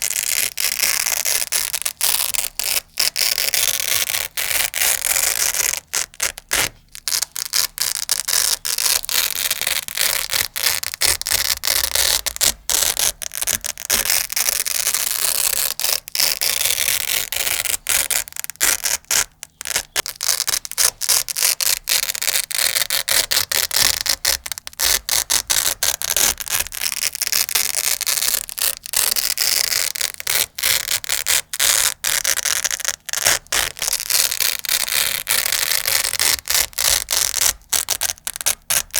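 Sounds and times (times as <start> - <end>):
velcro ripping and crackling: 0.0 - 38.9.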